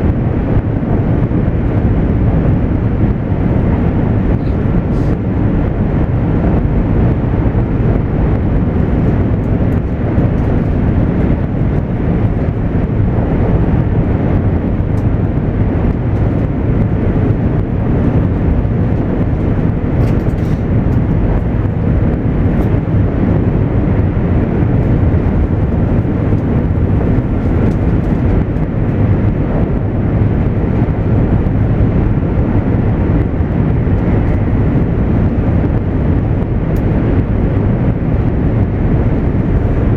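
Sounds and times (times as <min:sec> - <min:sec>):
train interior low rumble: 0:00.0 - 0:39.9.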